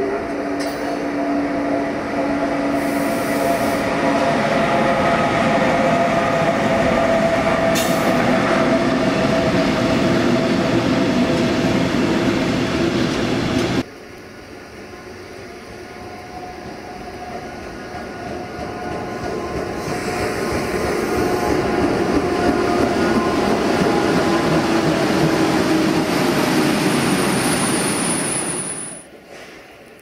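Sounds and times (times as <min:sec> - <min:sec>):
train wheels rolling on rails: 0:00.0 - 0:13.9, 0:14.7 - 0:30.0.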